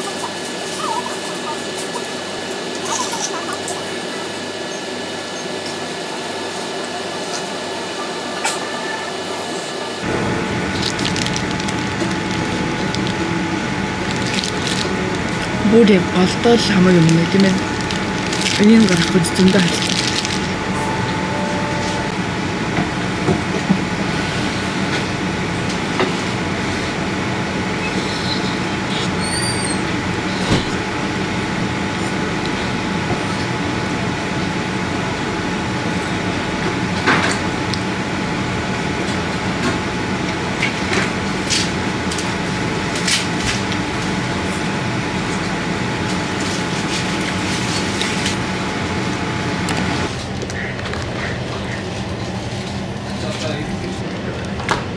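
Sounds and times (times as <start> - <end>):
machinery hum and hiss: 0.0 - 54.9.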